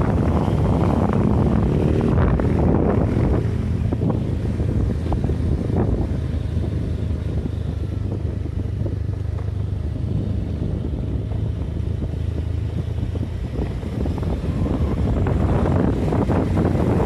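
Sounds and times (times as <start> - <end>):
road and wind noise: 0.0 - 17.0
vehicle engine drone: 0.0 - 17.0.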